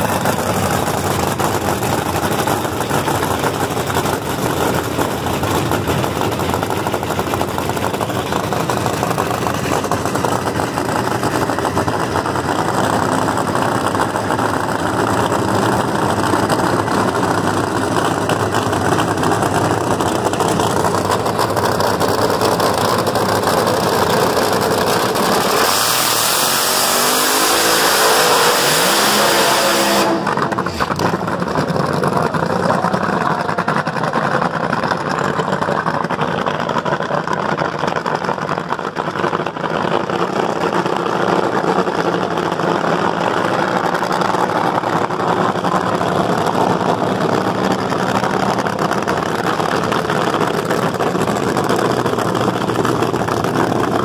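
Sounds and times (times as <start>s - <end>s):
race car engine running rough: 0.0s - 54.0s
tires spinning: 0.0s - 54.0s.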